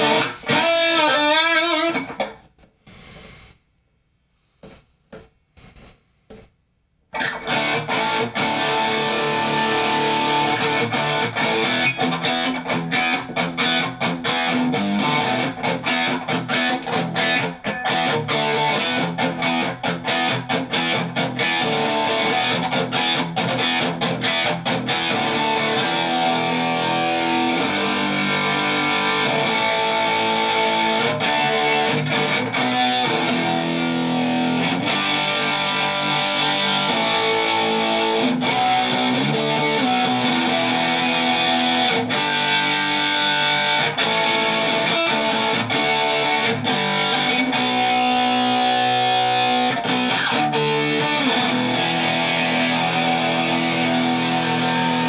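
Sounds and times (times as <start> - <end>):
distorted electric guitar chords: 0.0 - 3.4, 7.2 - 55.0.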